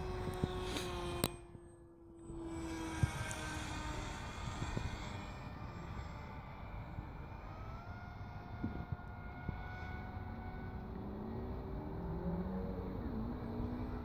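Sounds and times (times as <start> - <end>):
model plane motor whine: 0.0 - 14.0.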